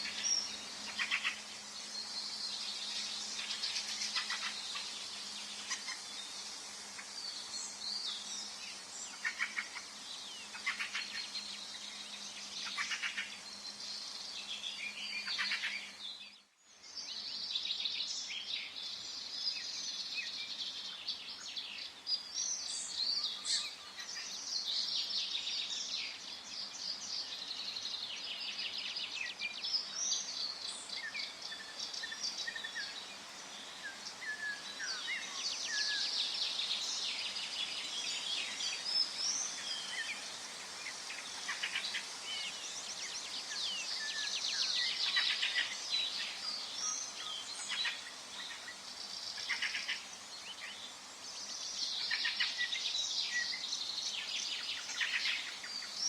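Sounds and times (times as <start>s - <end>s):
soft steady hiss: 0.0s - 56.0s
songbirds singing and calling: 0.0s - 56.0s.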